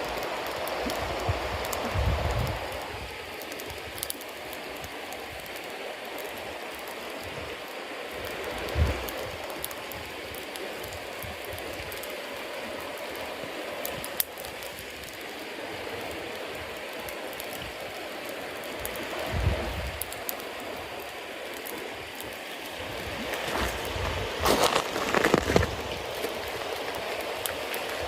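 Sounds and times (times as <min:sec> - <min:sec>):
campfire hissing and crackling: 0:00.0 - 0:28.0.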